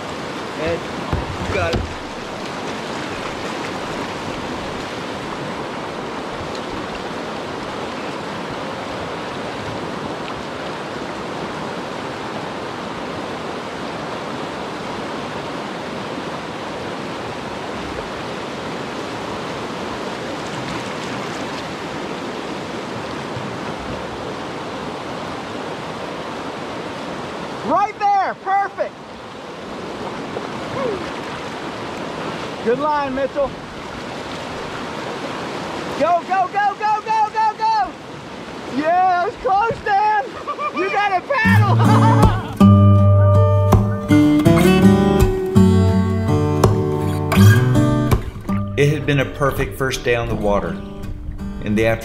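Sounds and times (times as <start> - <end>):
whitewater rushing over rocks: 0.0 - 45.6.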